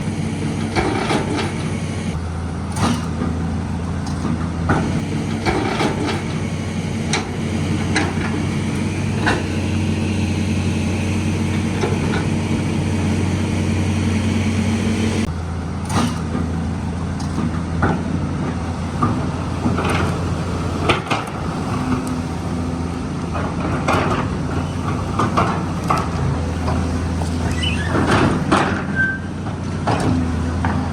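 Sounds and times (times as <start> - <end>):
excavator arm knocks and clanks: 0.0 - 10.6, 15.8 - 30.9
excavator diesel engine running: 0.0 - 30.9.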